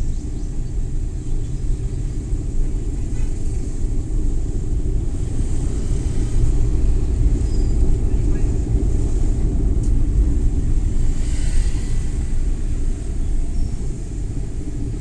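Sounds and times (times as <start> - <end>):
van engine and road rumble: 0.0 - 15.0.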